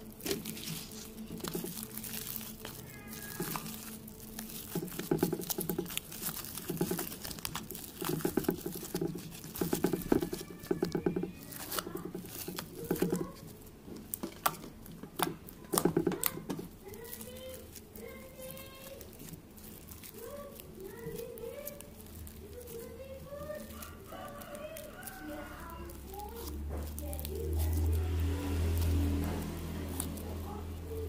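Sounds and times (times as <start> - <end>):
slime crackling and popping: 0.0 - 31.0.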